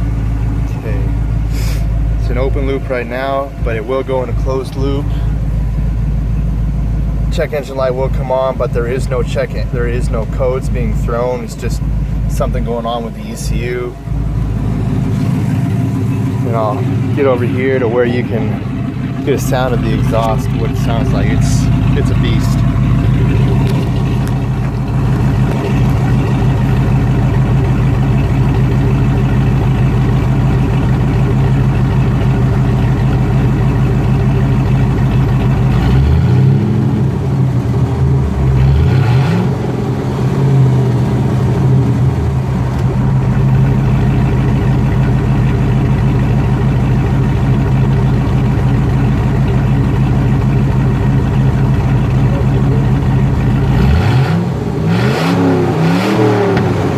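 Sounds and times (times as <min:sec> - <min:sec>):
car engine idling: 0:00.0 - 0:56.9
engine throttle blips: 0:00.0 - 0:56.9.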